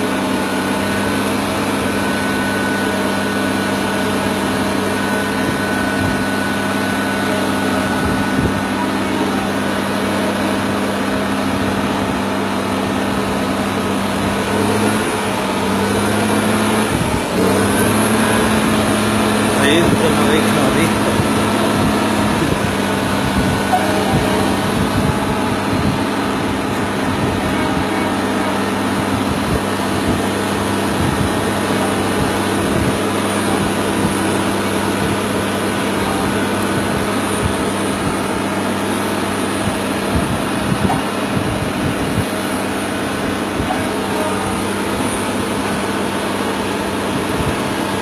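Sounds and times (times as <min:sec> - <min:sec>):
diesel engine humming: 0:00.0 - 0:48.0.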